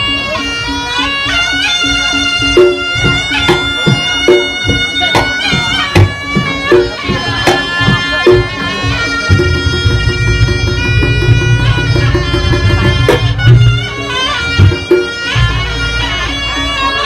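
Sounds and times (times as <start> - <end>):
double-reed pipe melody: 0.0 - 17.0
drum and gong strikes: 0.0 - 17.0.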